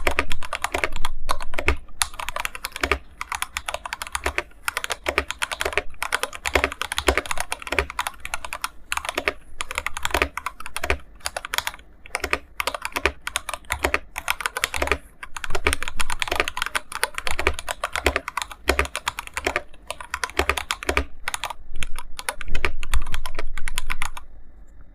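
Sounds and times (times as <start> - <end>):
mechanical keyboard typing: 0.0 - 24.2.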